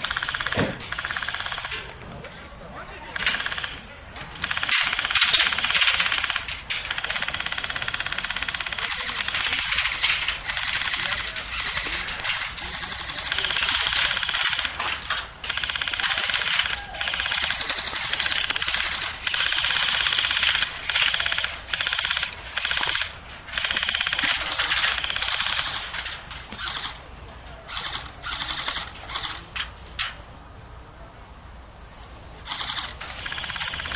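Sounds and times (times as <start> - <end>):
airsoft guns firing full auto: 0.0 - 1.8, 3.1 - 27.0, 27.7 - 29.4.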